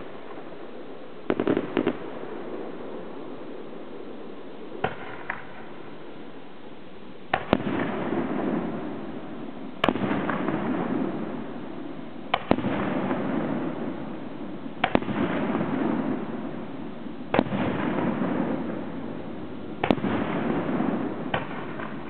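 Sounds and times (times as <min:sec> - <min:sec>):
rumbling crackling firework noise: 0:00.0 - 0:22.0.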